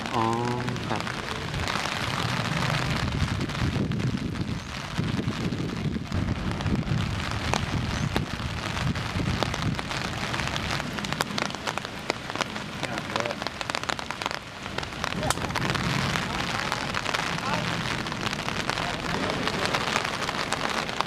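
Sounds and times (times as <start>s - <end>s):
rain falling: 0.0s - 21.0s
sharp raindrop ticks: 0.0s - 21.0s.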